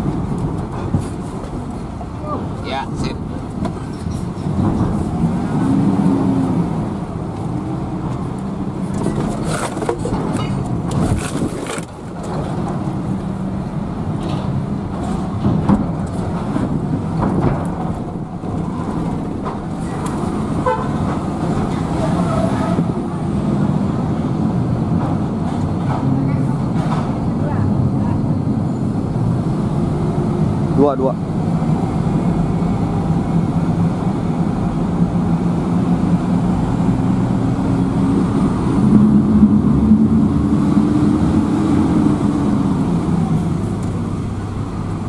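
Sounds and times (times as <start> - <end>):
diesel truck engine: 0.0 - 45.0.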